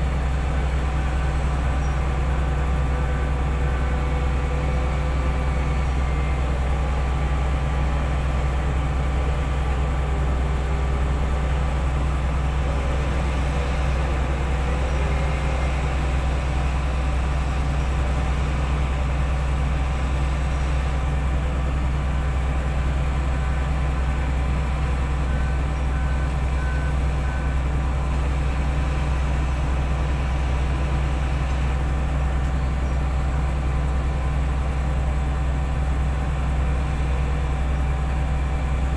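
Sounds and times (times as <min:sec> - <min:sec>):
heavy diesel engines droning: 0:00.0 - 0:38.9.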